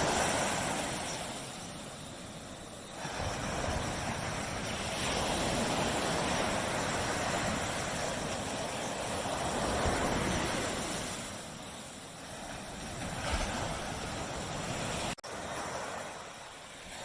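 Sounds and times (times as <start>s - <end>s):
waves washing on beach: 0.0s - 17.0s.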